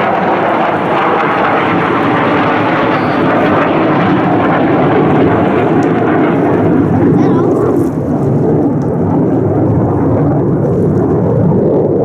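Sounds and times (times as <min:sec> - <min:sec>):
fighter jets passing overhead: 0:00.0 - 0:12.0.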